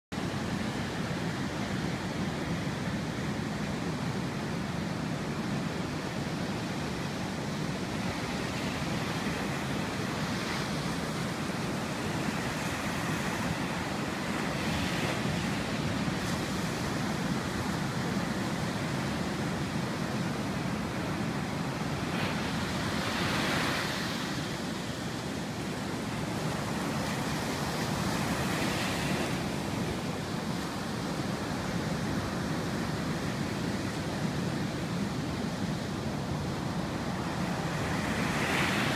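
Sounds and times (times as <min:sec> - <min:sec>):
ocean waves breaking: 0:00.2 - 0:38.9.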